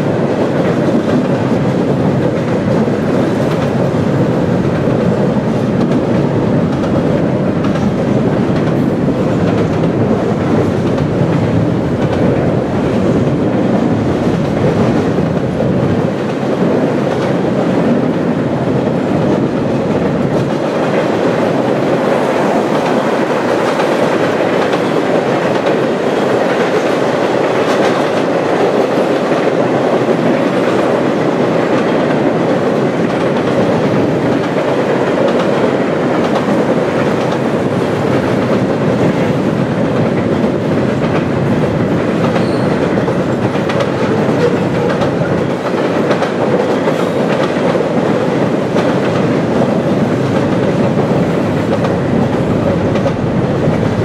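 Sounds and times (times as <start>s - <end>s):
freight cars rattling over bridge: 0.0s - 54.0s
train wheels on rail: 0.0s - 54.0s.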